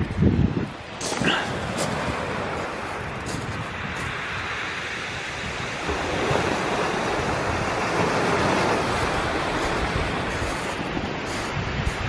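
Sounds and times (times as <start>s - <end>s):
waves breaking on shingle: 0.9s - 12.0s.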